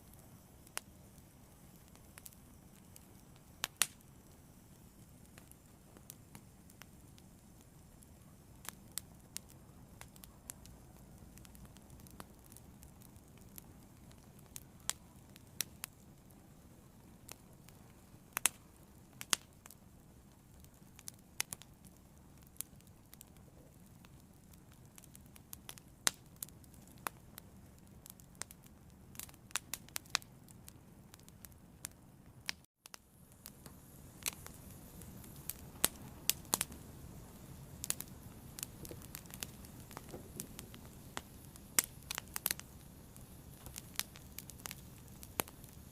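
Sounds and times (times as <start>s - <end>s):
fire crackling and popping: 0.0s - 45.9s
low rush of flames: 0.0s - 45.9s.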